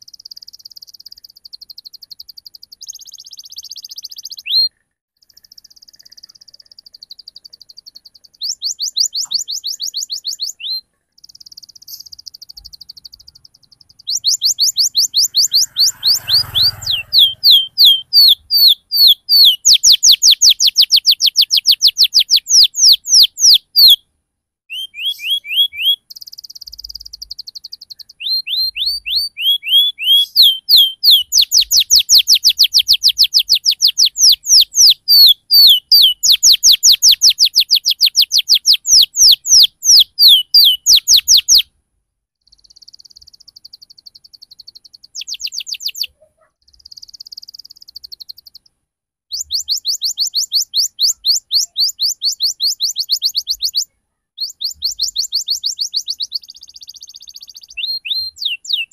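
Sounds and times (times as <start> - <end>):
canary singing trills: 0.0 - 24.1, 24.7 - 41.7, 42.4 - 48.7, 49.3 - 58.9.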